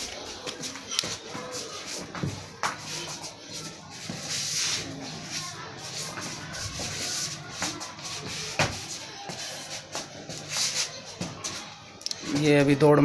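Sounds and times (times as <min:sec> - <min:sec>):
sneakers scuffing on concrete: 0:00.0 - 0:11.6.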